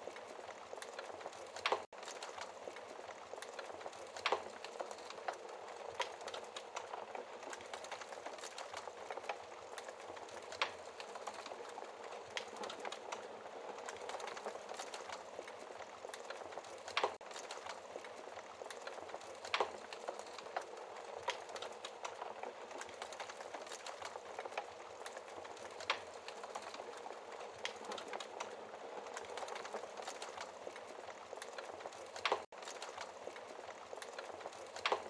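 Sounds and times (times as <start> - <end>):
fire hissing and crackling: 0.0 - 35.0
fire popping: 0.0 - 35.0.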